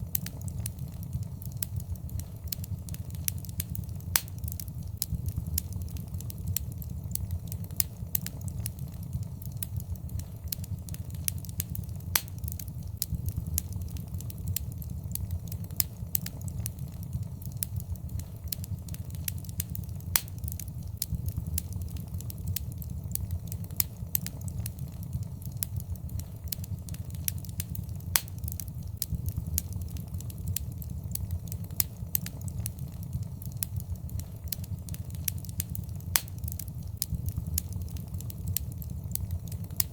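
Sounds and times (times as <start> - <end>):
fire flames rumbling: 0.0 - 39.9
wood fire crackling and popping: 0.0 - 39.9.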